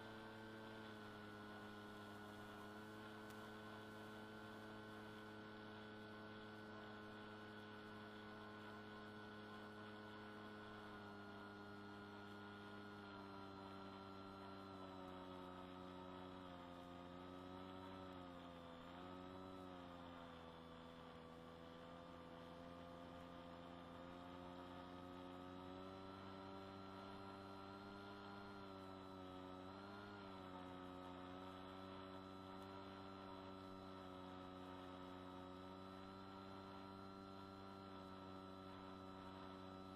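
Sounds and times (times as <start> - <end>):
electric motor and propeller drone: 0.0 - 39.9.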